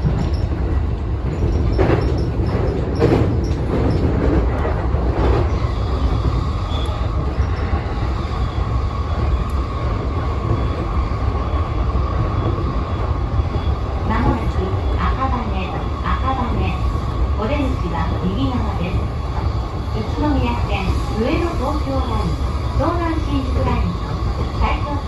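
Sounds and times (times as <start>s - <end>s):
steady train whine: 0.0s - 25.0s
train rumbling on rails: 0.0s - 25.0s.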